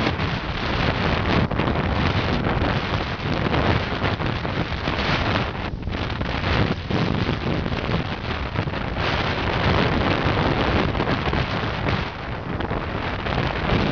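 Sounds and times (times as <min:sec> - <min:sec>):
waves breaking along hull: 0:00.0 - 0:13.9
wind buffeting microphone: 0:00.0 - 0:13.9.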